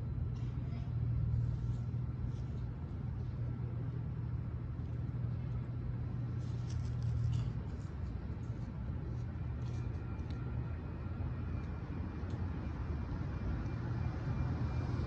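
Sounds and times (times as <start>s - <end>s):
low engine rumble: 0.0s - 15.0s
road traffic: 0.0s - 15.0s.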